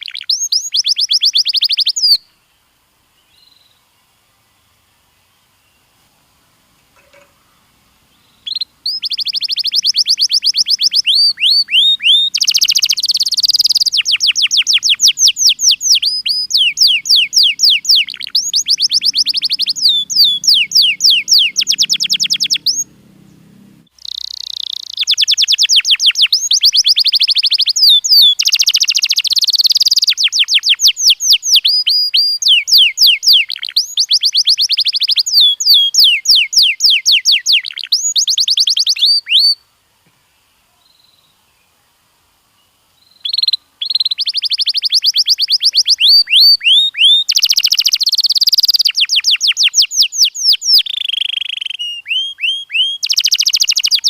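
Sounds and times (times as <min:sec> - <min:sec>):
canary singing trills: 0:00.0 - 0:02.4, 0:07.0 - 0:39.6, 0:42.6 - 0:54.0.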